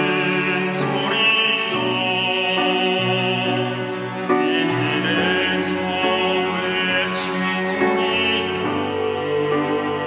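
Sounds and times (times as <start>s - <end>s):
mixed choir singing: 0.0s - 10.0s.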